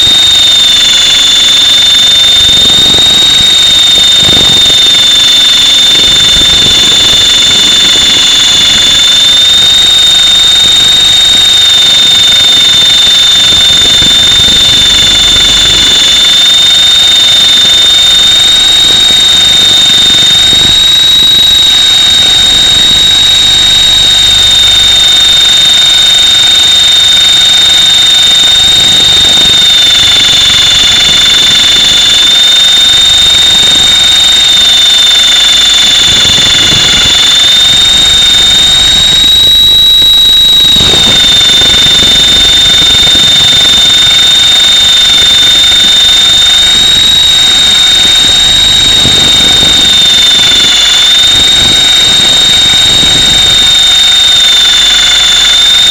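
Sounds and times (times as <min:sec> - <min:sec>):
electric motor high-pitched whine: 0:00.0 - 0:55.9
helicopter rotor noise: 0:00.0 - 0:55.9.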